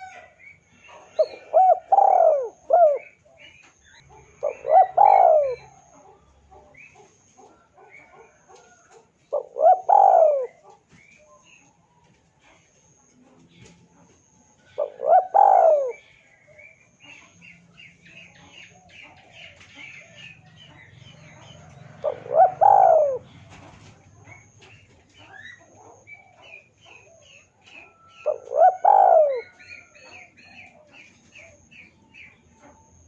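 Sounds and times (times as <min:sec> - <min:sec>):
dove cooing: 0:00.0 - 0:11.6, 0:14.1 - 0:17.4, 0:18.2 - 0:33.0
small birds chirping: 0:00.0 - 0:33.0.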